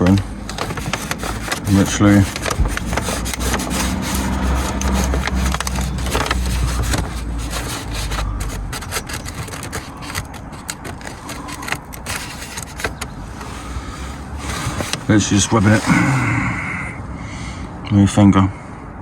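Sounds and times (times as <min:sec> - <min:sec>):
paper crinkling and rustling: 0:00.0 - 0:16.1.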